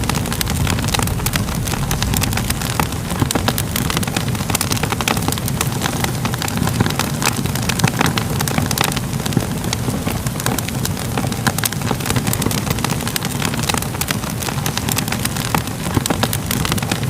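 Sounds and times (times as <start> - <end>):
fire crackling with pops: 0.0 - 17.0.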